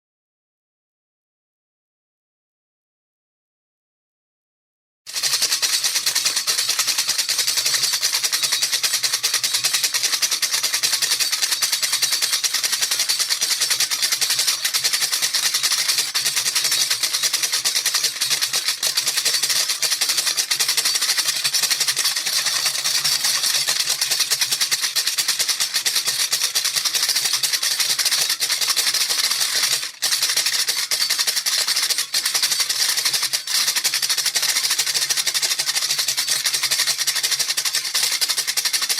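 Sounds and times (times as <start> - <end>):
rattle shaken fast: 5.1 - 38.9.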